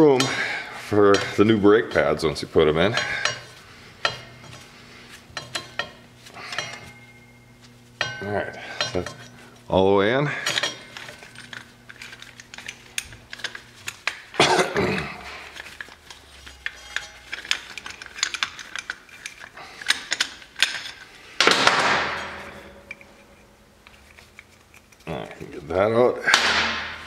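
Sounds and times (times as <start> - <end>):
metal tools clinking: 0.0 - 4.7, 5.4 - 25.8.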